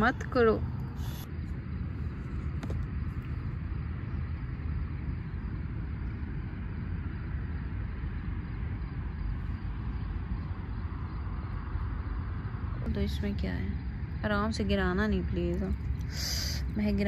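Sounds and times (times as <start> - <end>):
low rumble: 0.0 - 16.2.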